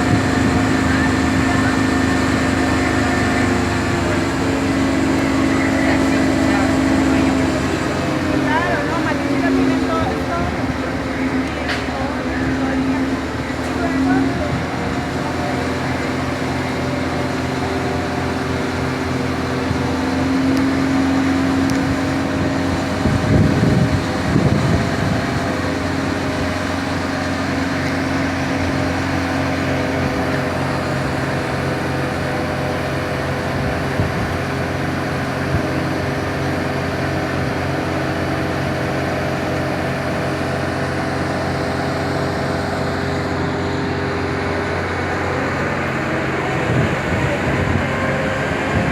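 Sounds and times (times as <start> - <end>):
louder rumble: 0.0 - 48.9
machinery hum: 0.0 - 48.9.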